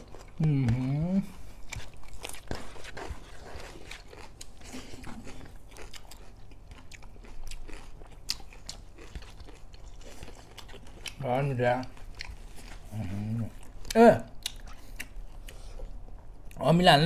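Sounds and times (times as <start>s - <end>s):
chewing and crunching food: 0.0s - 16.7s.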